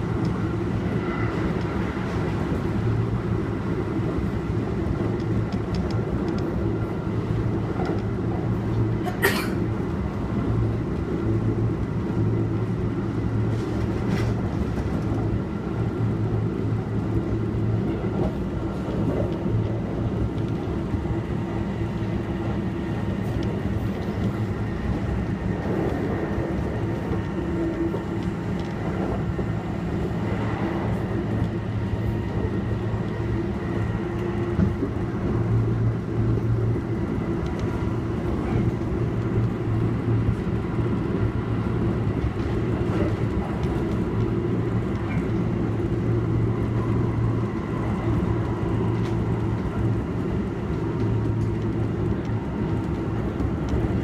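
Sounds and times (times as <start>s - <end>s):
train motor hum and tones: 0.0s - 54.0s
train wheels rumbling on rails: 0.0s - 54.0s.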